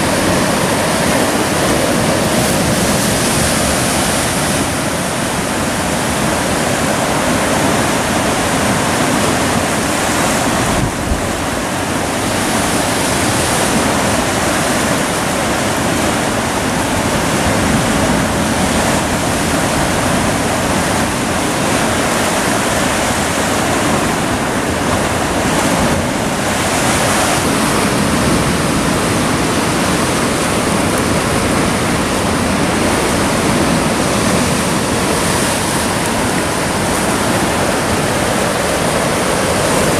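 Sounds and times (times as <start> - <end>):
sea surf breaking on rocks: 0.0 - 39.9.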